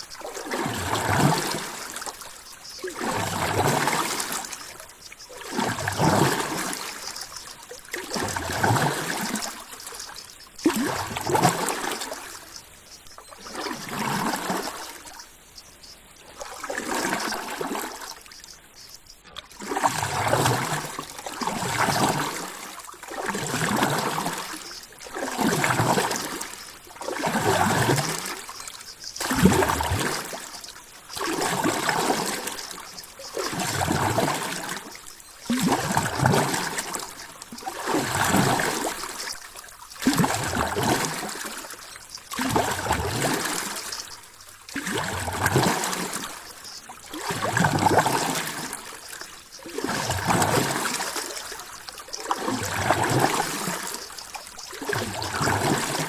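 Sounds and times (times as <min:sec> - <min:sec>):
ocean water: 0:00.0 - 0:56.0.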